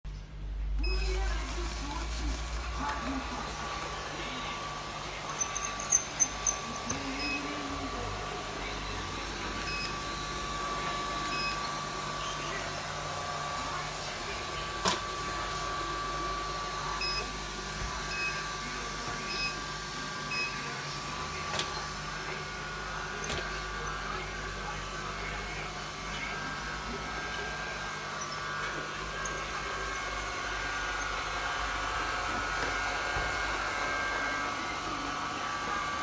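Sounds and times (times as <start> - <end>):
robot vacuum cleaner whirring: 0.8 - 36.0.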